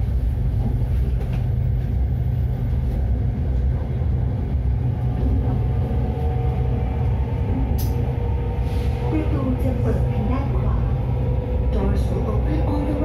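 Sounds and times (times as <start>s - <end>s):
train rumbling in motion: 0.0s - 13.0s.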